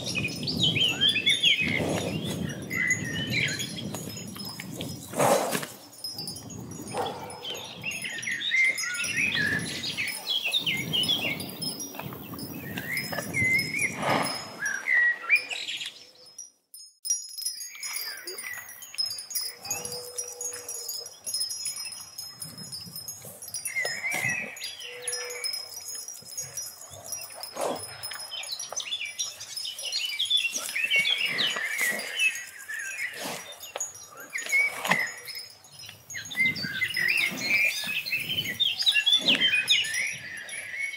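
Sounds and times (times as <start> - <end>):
wind chimes tinkling: 0.0 - 40.9.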